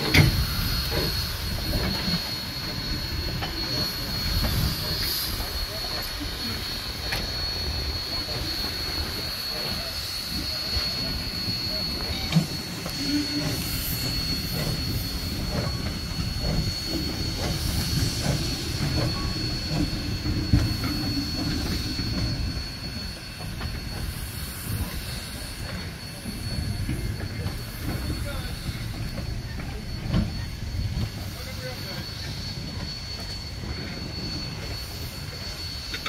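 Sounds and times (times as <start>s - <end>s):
steady high-pitched whine: 0.0s - 36.0s
train rumbling over track: 0.0s - 36.0s.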